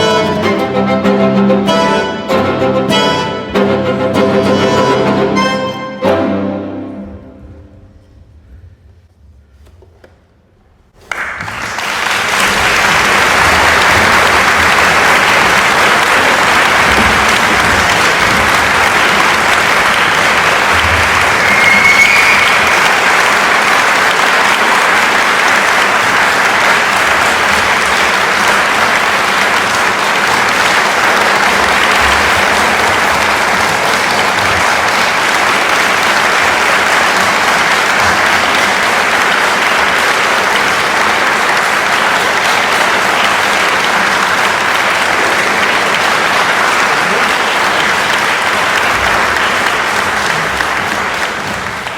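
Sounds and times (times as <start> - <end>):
audience applauding: 0.0 - 7.0, 11.0 - 51.9.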